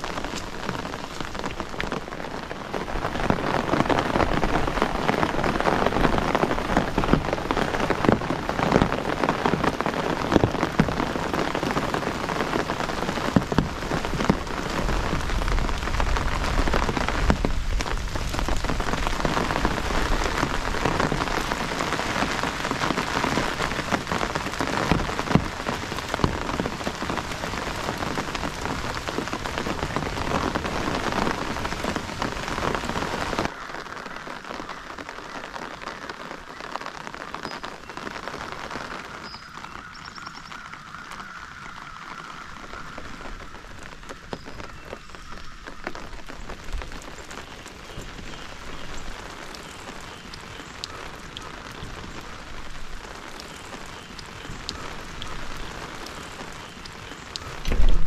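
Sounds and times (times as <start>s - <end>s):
heavy rain on a tent: 0.0s - 58.0s.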